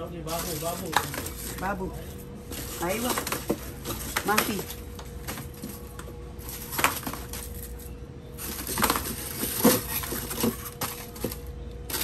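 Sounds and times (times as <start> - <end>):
faint freezer hum: 0.0 - 12.0
plastic wrappers crinkling: 0.0 - 12.0.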